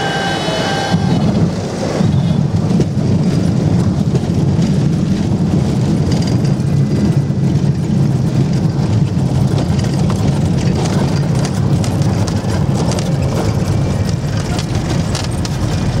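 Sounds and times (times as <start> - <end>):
propeller engine droning: 0.0 - 16.0.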